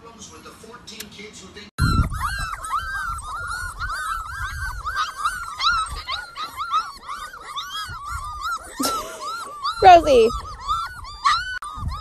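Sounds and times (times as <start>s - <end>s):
puppies whining and squeaking: 1.8s - 12.0s.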